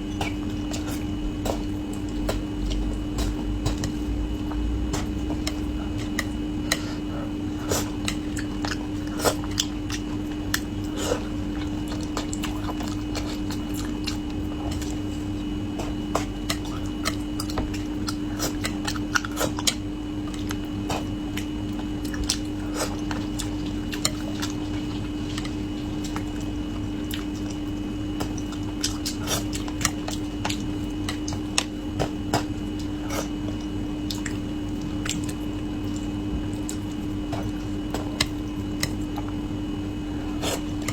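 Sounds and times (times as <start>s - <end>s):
person chewing: 0.0s - 39.5s, 40.1s - 40.9s
steady low hum: 0.0s - 40.9s.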